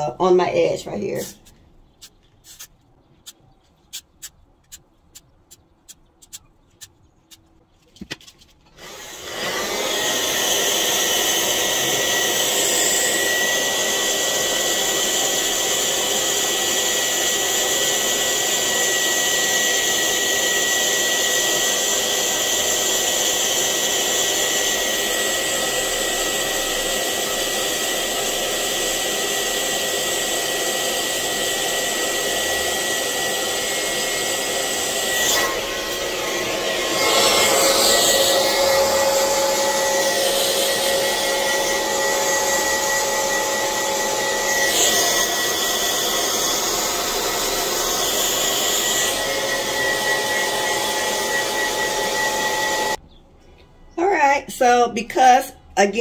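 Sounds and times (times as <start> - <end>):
hair dryer whining: 0.0 - 1.5, 8.7 - 53.0.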